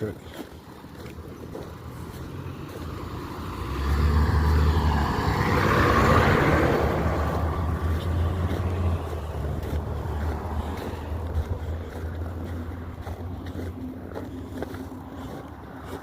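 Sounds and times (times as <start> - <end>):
road noise: 0.0 - 16.0
truck driving past: 0.0 - 16.0.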